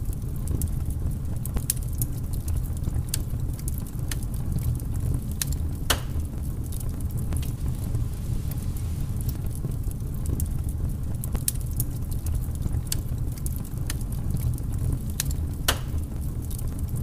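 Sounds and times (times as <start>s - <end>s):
fire crackling and popping: 0.0s - 17.0s
fire low rumble: 0.0s - 17.0s.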